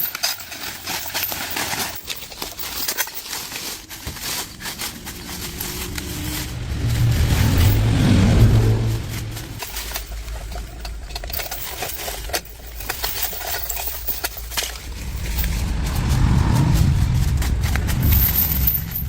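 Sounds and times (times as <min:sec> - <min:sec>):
engine running with low hum: 0:00.7 - 0:19.0.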